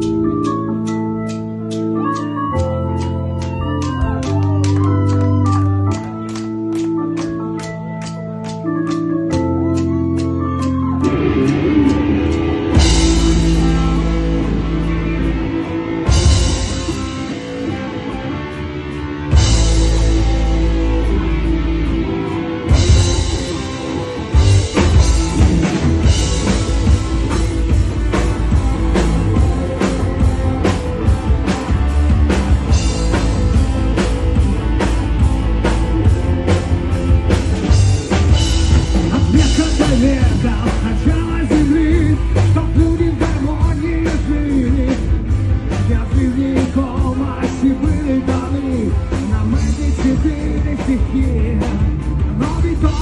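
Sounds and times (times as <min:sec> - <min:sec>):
rock band playing: 0:00.0 - 0:53.0.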